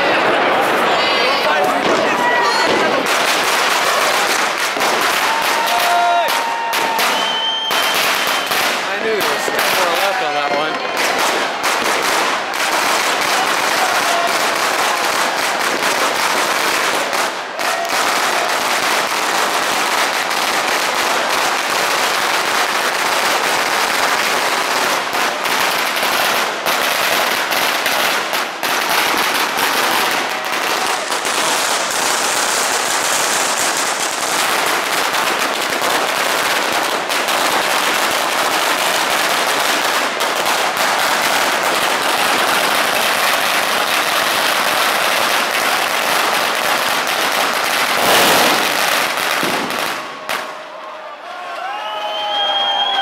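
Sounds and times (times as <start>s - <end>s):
firecrackers and fireworks crackling: 0.0s - 53.0s.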